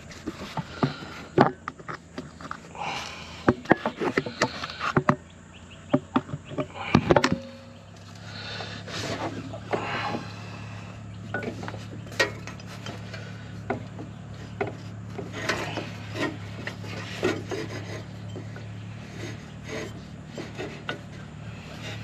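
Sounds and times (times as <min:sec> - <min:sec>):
rubber belt rubbing and scraping: 0:00.0 - 0:05.2, 0:06.8 - 0:22.0
steady low hum: 0:00.0 - 0:22.0.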